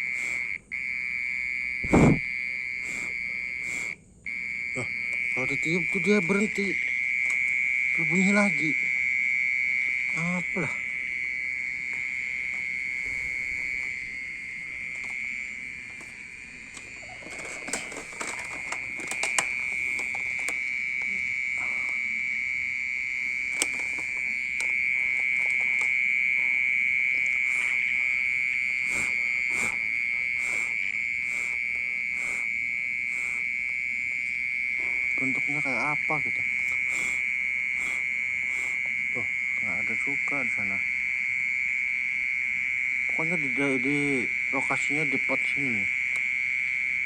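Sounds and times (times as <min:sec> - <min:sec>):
insect high-pitched ringing drone: 0:00.0 - 0:47.0.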